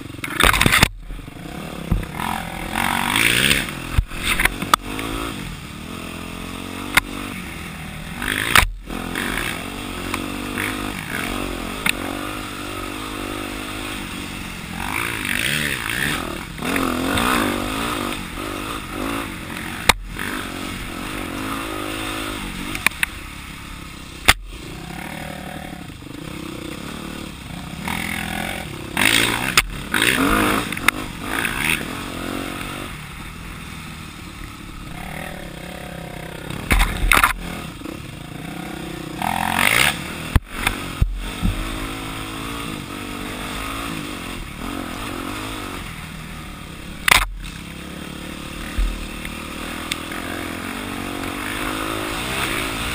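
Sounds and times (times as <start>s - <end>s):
dirt bike engine: 0.0s - 52.9s.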